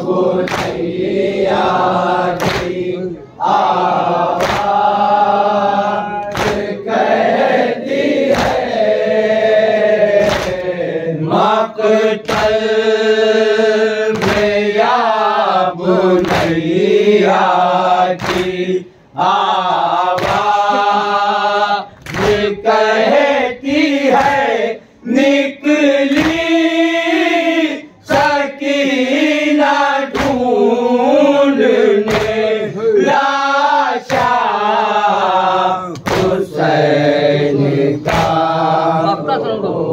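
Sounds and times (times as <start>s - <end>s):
lead reciter voice: 0.0s - 39.9s
men chanting in unison: 0.0s - 39.9s.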